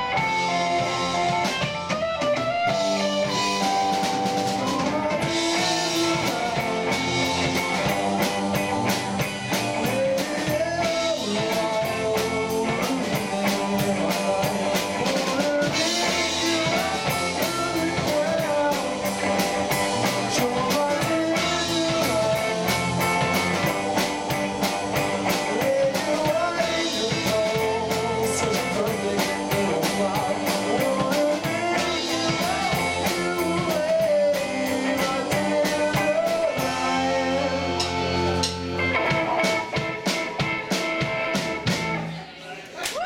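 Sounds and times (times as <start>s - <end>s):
drum kit: 0.0s - 42.3s
bass guitar: 0.0s - 42.4s
distorted electric guitars: 0.0s - 42.4s
keyboard: 0.0s - 42.4s
lead vocal singing: 2.7s - 40.4s.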